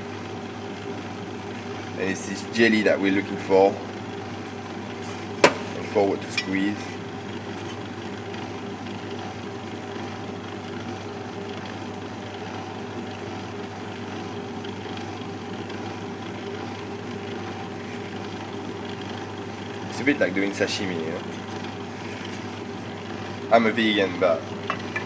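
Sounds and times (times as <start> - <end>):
juicer motor humming: 0.0 - 25.0.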